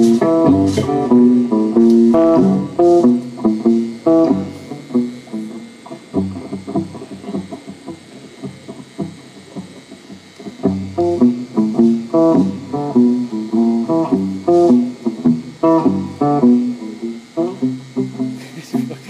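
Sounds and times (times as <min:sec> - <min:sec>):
plucked guitar notes: 0:00.0 - 0:19.0.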